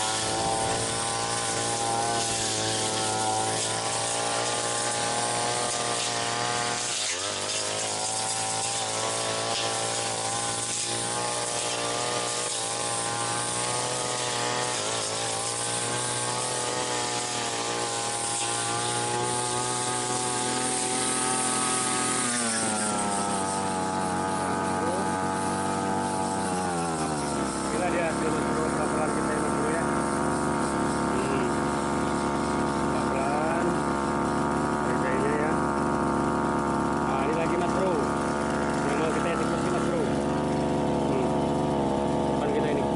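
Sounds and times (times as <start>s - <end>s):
brush cutter engine cutting weeds: 0.0s - 42.9s.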